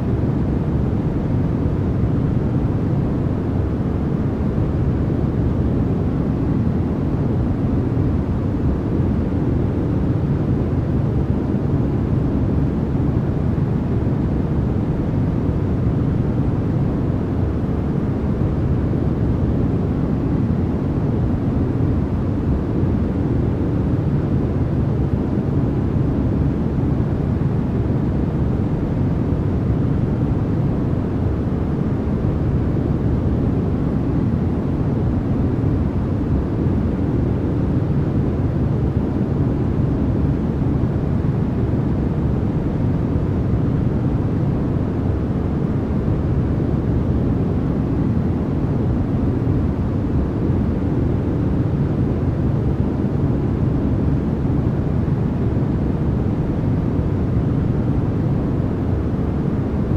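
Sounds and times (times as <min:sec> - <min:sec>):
deep rumbling white noise hiss: 0:00.0 - 0:59.9.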